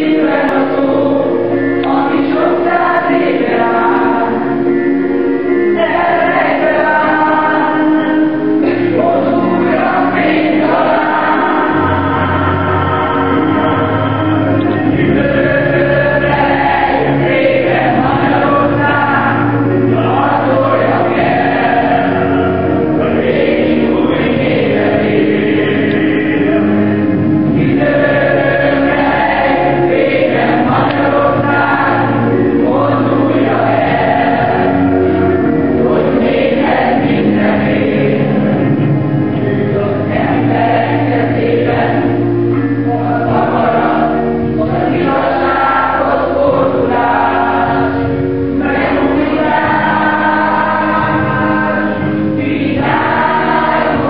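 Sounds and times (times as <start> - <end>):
organ chords: 0.0 - 54.0
youth choir singing: 0.0 - 54.0.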